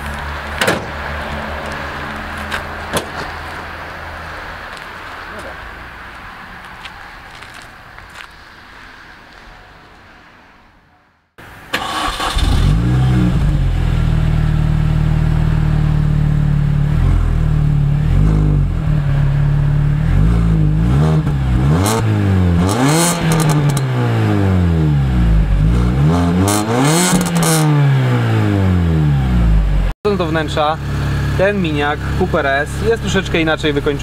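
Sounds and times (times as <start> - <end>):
car engine idling and revving: 0.0 - 8.3, 11.8 - 34.0.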